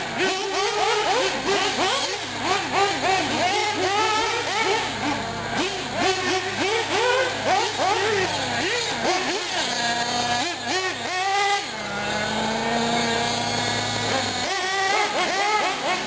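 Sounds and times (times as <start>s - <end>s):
small model engines revving: 0.0s - 16.0s.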